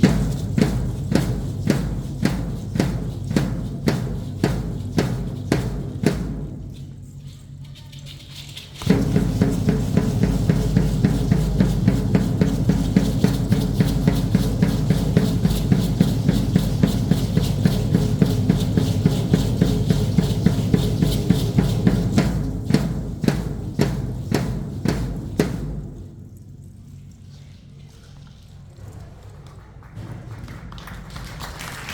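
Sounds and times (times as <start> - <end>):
drumming: 0.0 - 26.6.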